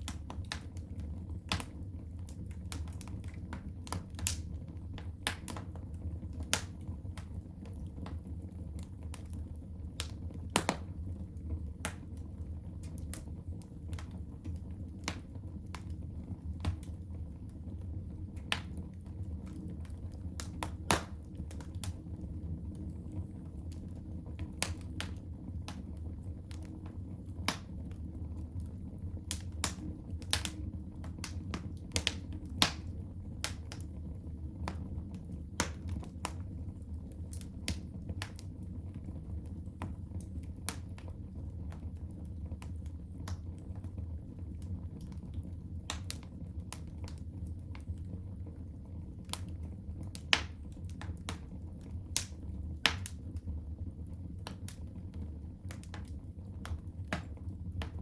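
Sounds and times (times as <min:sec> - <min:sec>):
low rumble of burning fire: 0:00.0 - 0:58.0
wood fire crackling and popping: 0:00.0 - 0:58.0.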